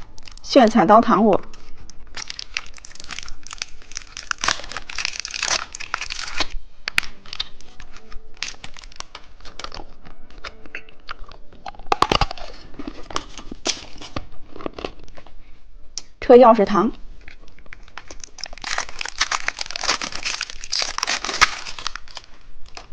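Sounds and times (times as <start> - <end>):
plastic packaging crinkling: 0.0 - 0.5, 1.4 - 15.4, 17.2 - 22.9.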